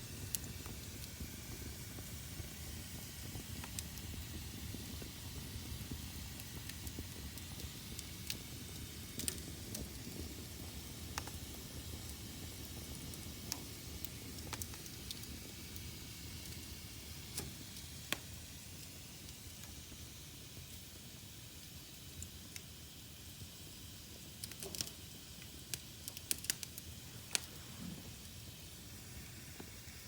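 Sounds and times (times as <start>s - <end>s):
fire crackles and pops: 0.0s - 30.0s
fire rumbling and hissing: 0.0s - 30.0s.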